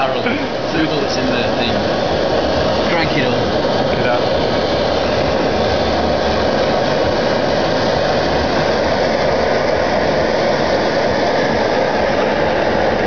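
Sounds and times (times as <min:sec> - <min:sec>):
blowtorch hissing: 0:00.0 - 0:13.0.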